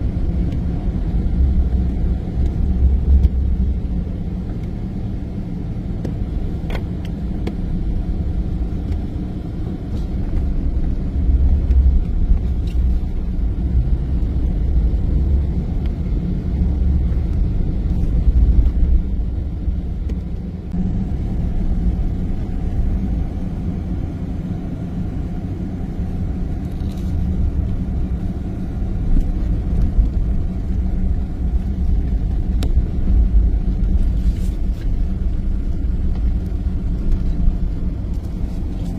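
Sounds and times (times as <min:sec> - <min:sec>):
car tyres and engine rumbling: 0:00.0 - 0:38.9.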